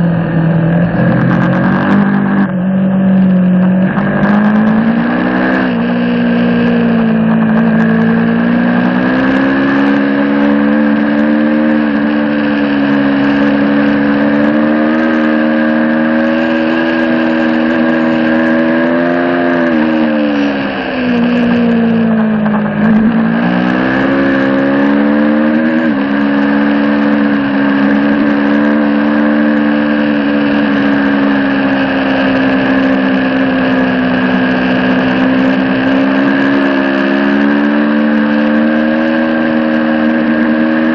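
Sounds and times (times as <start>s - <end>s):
motorcycle engine revving high: 0.0s - 40.9s.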